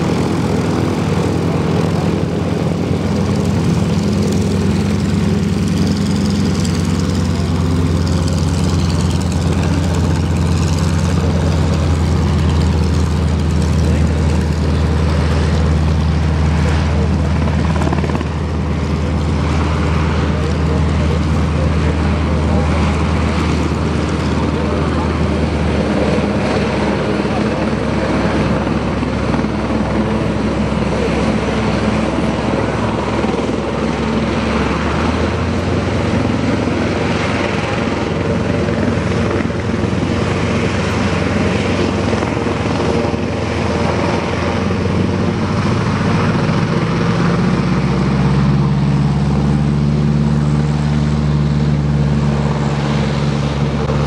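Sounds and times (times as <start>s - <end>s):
radial aircraft engine and propeller: 0.0s - 54.0s.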